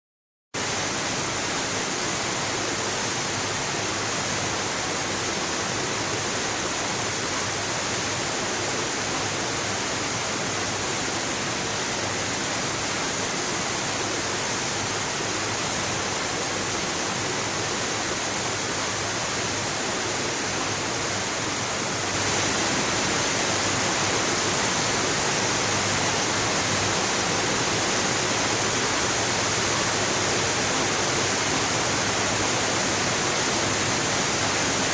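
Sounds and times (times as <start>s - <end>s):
waterfall: 0.6s - 34.9s.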